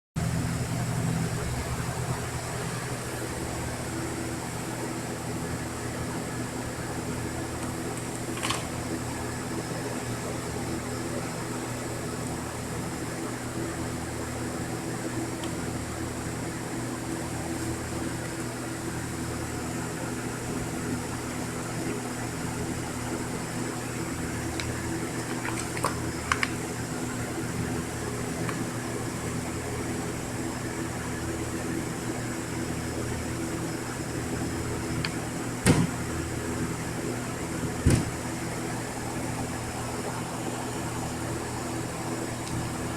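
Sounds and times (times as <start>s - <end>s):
mechanical hum: 0.2s - 42.9s.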